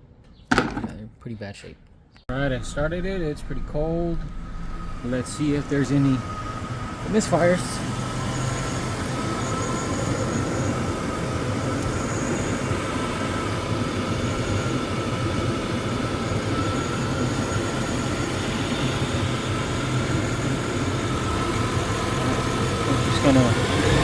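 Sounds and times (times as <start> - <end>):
truck engine idling: 2.3 - 24.0.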